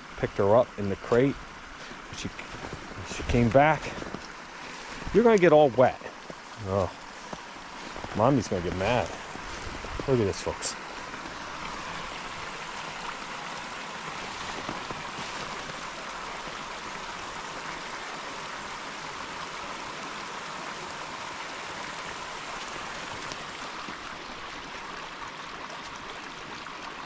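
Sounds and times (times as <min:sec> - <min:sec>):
creek running over stones: 0:00.0 - 0:27.0.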